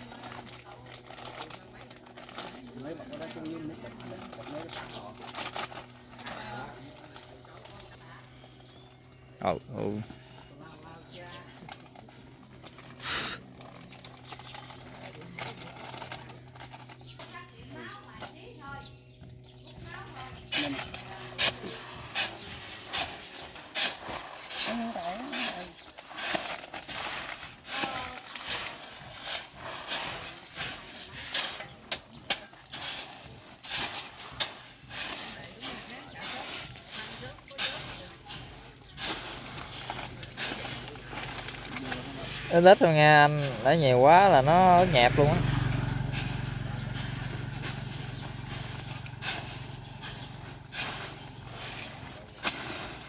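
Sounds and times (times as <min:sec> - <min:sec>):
hoe scraping fertilizer on tarp: 0:00.0 - 0:53.0.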